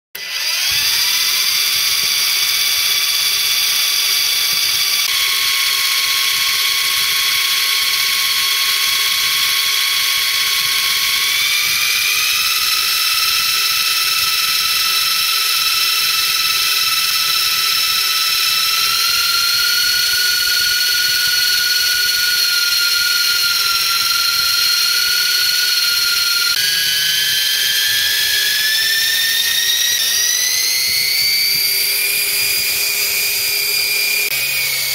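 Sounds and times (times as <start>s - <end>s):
electric motors whining: 0.2s - 34.9s.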